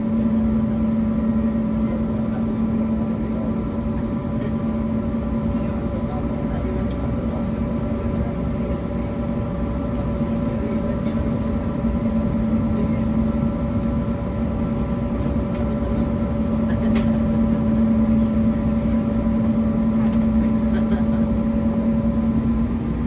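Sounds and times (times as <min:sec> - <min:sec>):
airplane cabin hum: 0:00.0 - 0:23.0.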